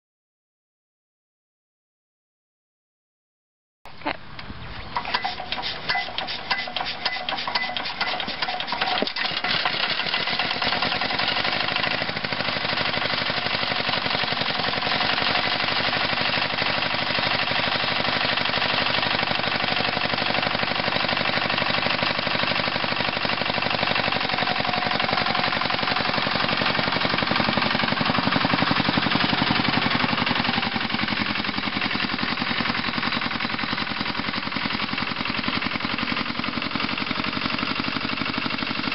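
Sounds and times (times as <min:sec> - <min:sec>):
diesel engine knocking: 0:05.1 - 0:38.9.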